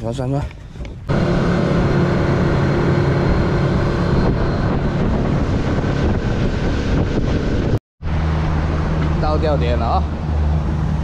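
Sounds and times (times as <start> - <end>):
wind and water rushing: 1.0 - 11.0
boat engine running: 1.1 - 11.0.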